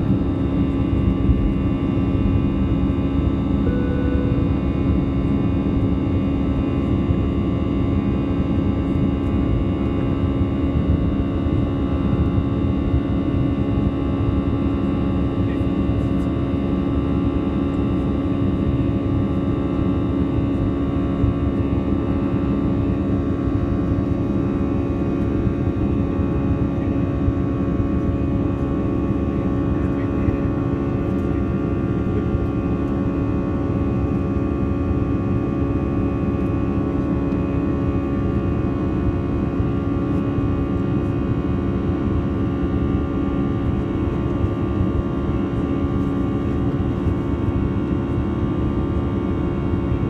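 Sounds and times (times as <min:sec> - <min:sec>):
engine hum: 0:00.0 - 0:50.0
jet engines rushing in cabin: 0:00.0 - 0:50.0.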